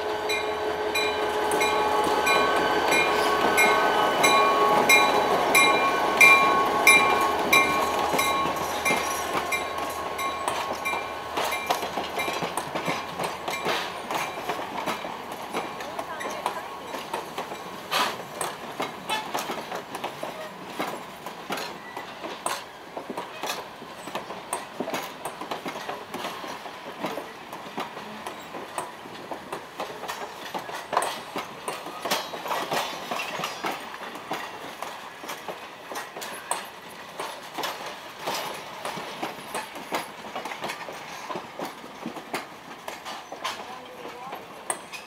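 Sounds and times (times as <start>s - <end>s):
train wheels clacking over rail joints: 0.0s - 45.0s.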